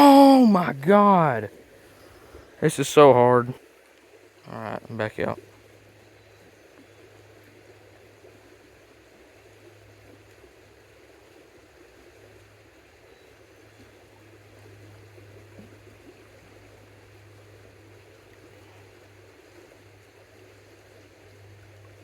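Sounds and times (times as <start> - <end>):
creek water flowing: 0.0 - 22.0.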